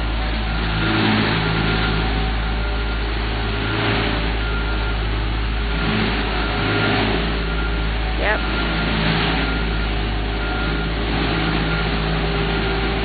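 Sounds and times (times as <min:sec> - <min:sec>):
heavy construction engines droning: 0:00.0 - 0:13.0.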